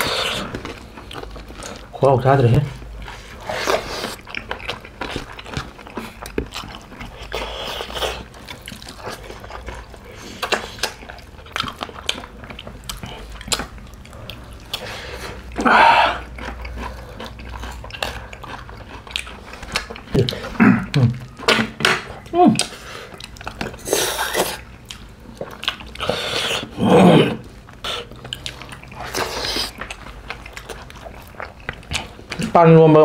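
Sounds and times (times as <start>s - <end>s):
wet chewing and lip smacking: 2.6s - 26.8s, 27.4s - 32.5s.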